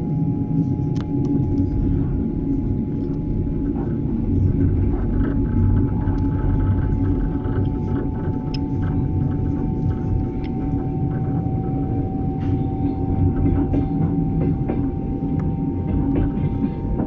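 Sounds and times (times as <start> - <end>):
faint whine: 0.0 - 17.0
train wheels rumbling on rails: 0.0 - 17.0
rail clicks: 2.9 - 17.0.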